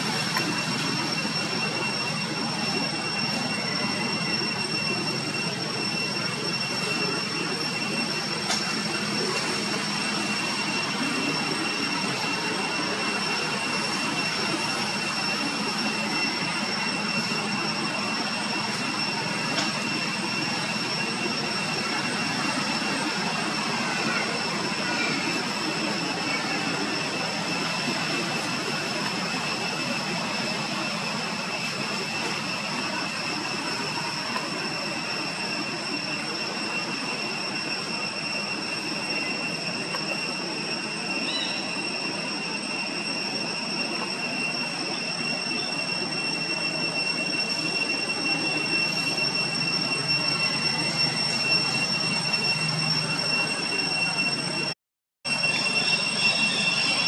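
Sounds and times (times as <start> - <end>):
high-pitched whine: 0.0 - 57.0.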